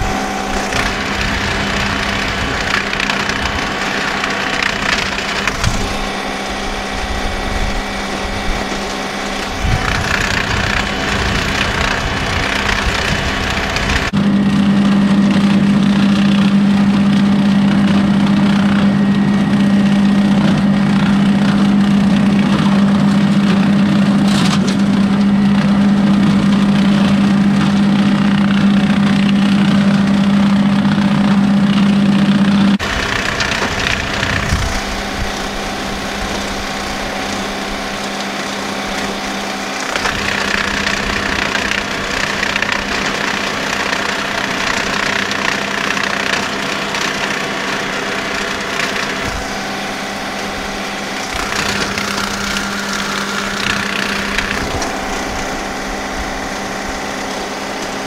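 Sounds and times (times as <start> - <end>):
rotary cutter humming: 0.0 - 58.0
tractor diesel engine running: 0.0 - 58.0.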